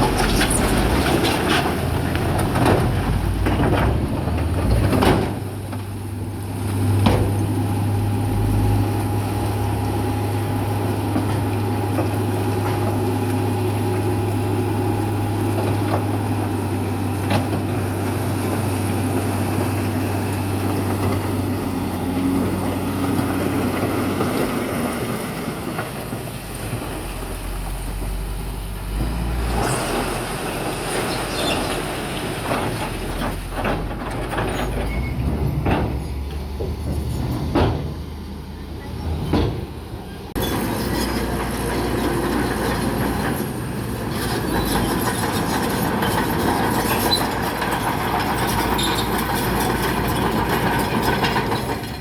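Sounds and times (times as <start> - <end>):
diesel machine engine hum: 0.0 - 52.0.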